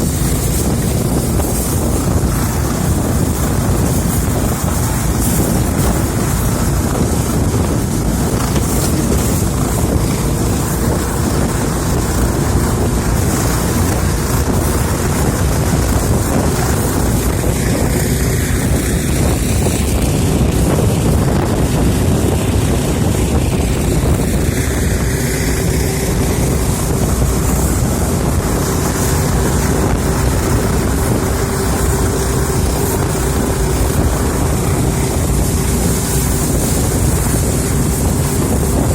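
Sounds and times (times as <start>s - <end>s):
motorboat running at speed: 0.0s - 38.9s
water rushing past hull: 0.0s - 38.9s
wind buffeting microphone: 0.0s - 38.9s.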